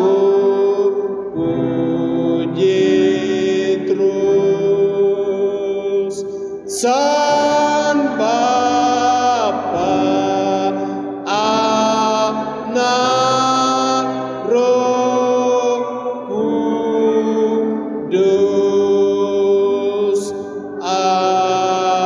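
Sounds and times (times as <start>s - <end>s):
chant-like singing: 0.0s - 22.0s.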